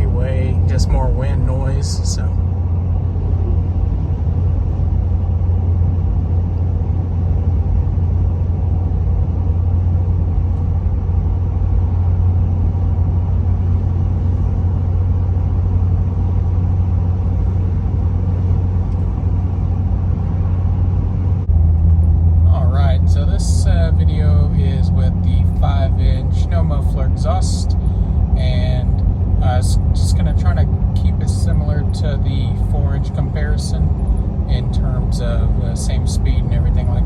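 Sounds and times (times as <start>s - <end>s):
diesel engine drone: 0.0s - 37.0s
tire hum: 0.0s - 37.0s.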